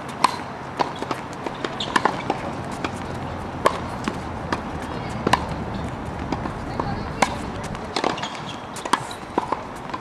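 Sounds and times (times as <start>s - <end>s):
tennis ball bouncing: 0.1s - 10.0s
tennis ball struck by racket: 0.1s - 10.0s.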